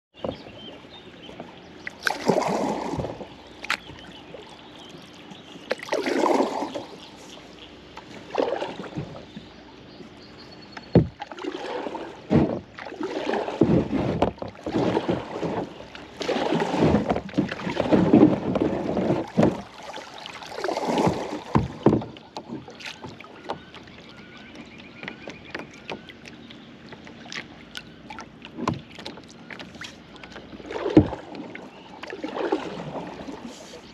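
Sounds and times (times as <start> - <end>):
paddle strokes splashing: 0.1 - 33.9
river water: 0.1 - 33.9.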